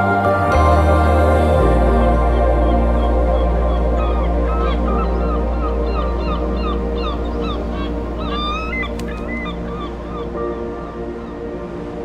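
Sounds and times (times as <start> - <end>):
ambient background music: 0.0 - 12.0.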